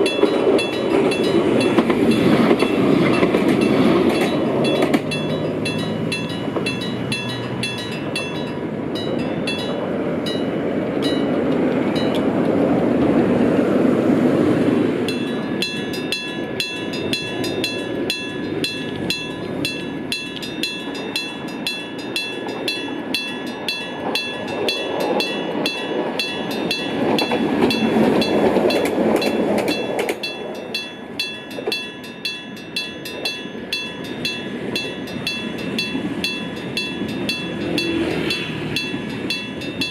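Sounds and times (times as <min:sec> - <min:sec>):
level crossing bell ringing: 0:00.0 - 0:11.4, 0:15.1 - 0:39.9
passing tram rumble: 0:00.0 - 0:39.9.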